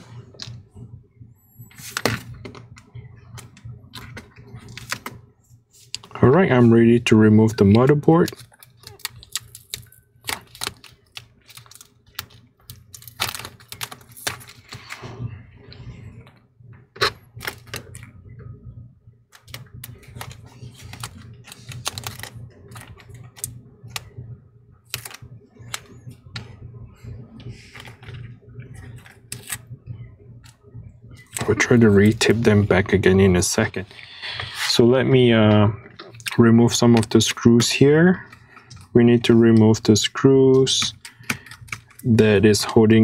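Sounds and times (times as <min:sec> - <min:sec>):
faint hum: 0:00.0 - 0:43.0.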